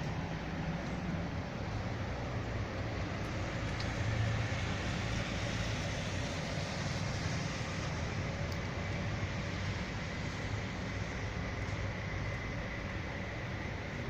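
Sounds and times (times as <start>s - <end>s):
rain hiss: 0.0s - 14.0s
road traffic rumble: 0.0s - 14.0s.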